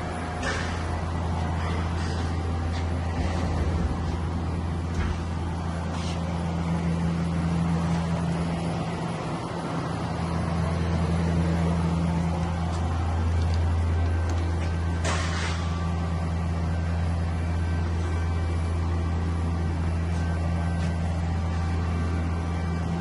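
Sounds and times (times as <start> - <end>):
shop machinery hum: 0.0 - 23.0.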